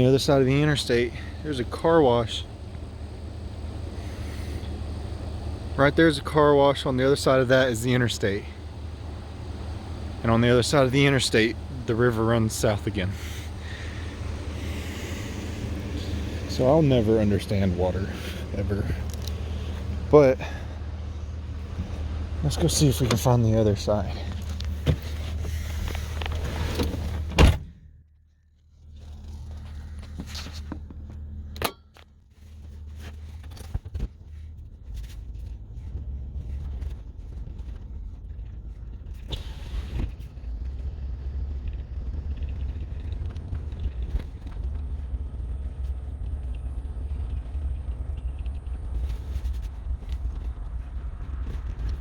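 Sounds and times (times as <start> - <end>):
truck engine rumbling: 0.0 - 52.0.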